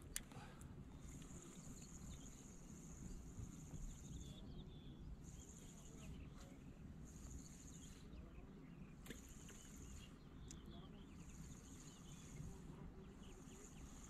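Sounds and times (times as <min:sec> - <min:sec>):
low outdoor rumble: 0:00.0 - 0:14.0
faint bird chirps: 0:00.9 - 0:14.0.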